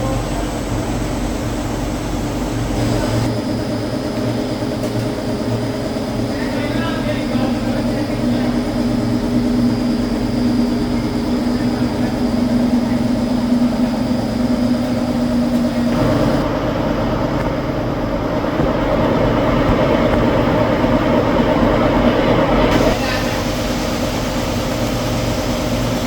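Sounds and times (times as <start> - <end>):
factory machinery humming: 0.0 - 26.0.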